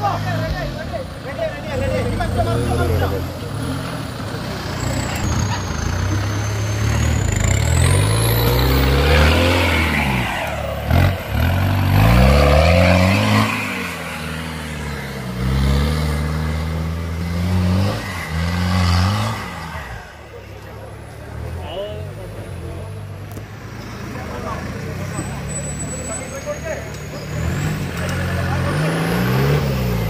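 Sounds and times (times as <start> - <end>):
jeep engine revving: 0.0 - 30.0.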